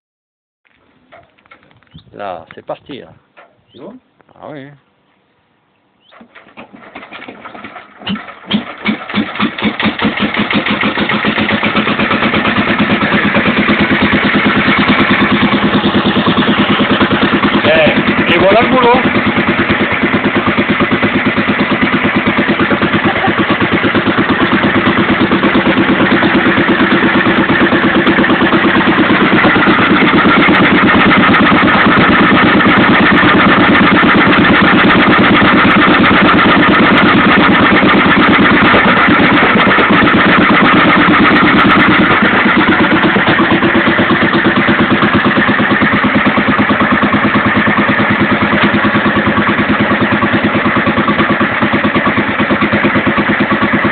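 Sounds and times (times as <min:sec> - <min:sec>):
stationary engine running: 0:06.5 - 0:53.9.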